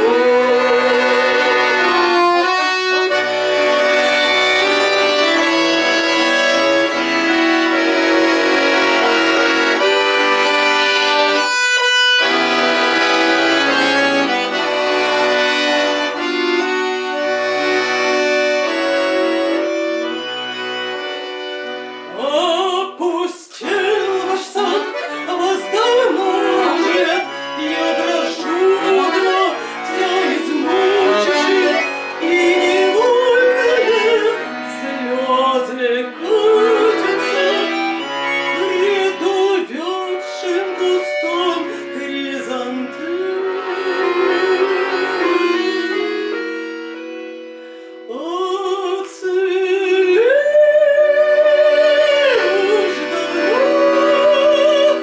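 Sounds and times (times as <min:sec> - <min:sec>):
person singing with vibrato: 0:00.0 - 0:18.1, 0:22.0 - 0:46.7, 0:47.8 - 0:55.0
sustained instrumental chords: 0:00.0 - 0:22.7, 0:23.7 - 0:50.0, 0:51.2 - 0:55.0.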